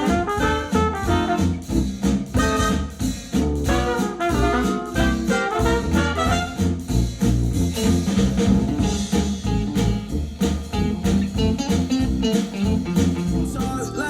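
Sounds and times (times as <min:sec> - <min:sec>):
drum kit: 0:00.0 - 0:14.0
jazz guitar: 0:00.0 - 0:14.0.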